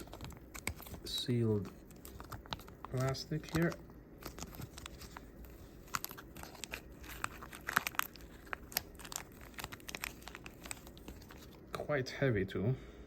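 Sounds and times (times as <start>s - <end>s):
plastic packaging crinkling and tearing: 0.0s - 11.7s.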